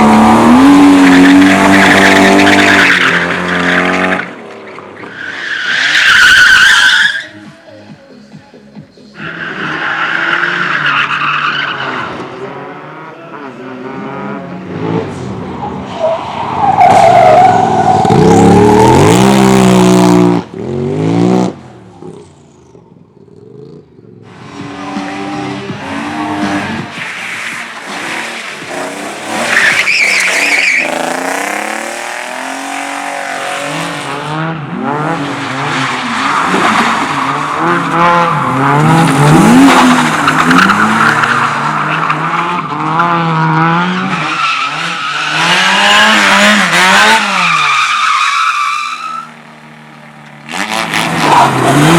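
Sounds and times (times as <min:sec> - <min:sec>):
car engines revving: 0:00.0 - 0:07.4, 0:09.1 - 0:51.9
tyres squealing and skidding: 0:00.0 - 0:07.8, 0:09.1 - 0:19.8, 0:24.3 - 0:51.9.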